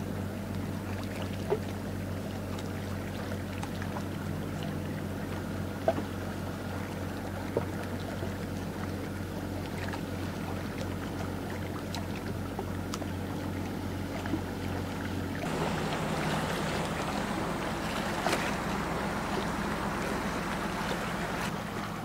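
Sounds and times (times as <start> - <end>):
boat engine droning: 0.0 - 22.0
water rushing and splashing: 0.4 - 22.0.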